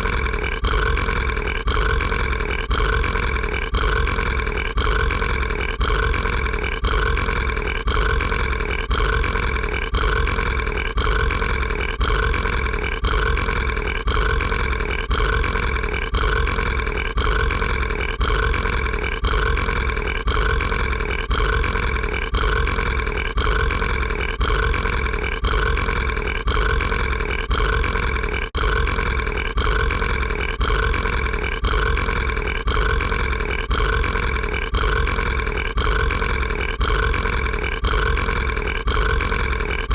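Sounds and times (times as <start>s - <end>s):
cartoon burp: 0.0s - 39.9s.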